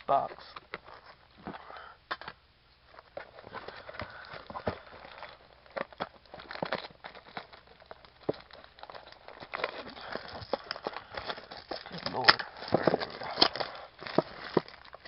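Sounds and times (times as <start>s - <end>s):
cardboard crackling and crinkling: 0.1s - 1.7s, 2.9s - 15.0s.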